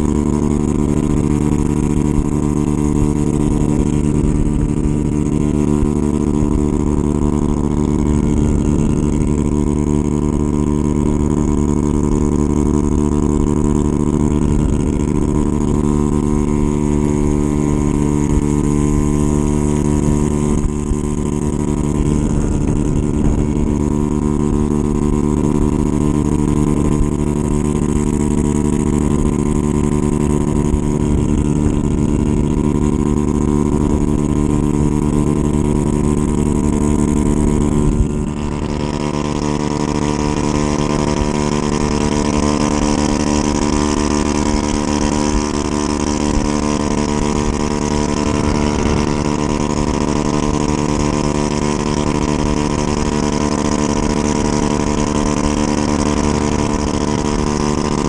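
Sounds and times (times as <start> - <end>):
scooter engine running: 0.0 - 58.0
wind rushing over microphone: 0.0 - 58.0.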